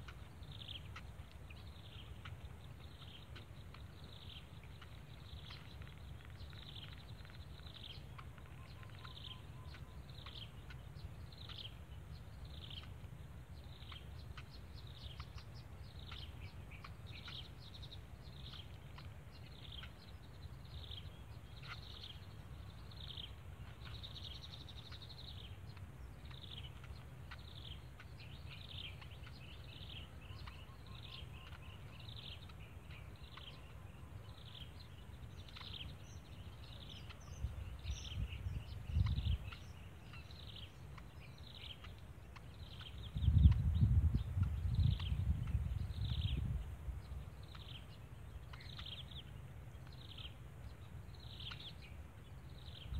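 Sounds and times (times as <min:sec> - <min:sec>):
bird calling: 0:00.0 - 0:46.4.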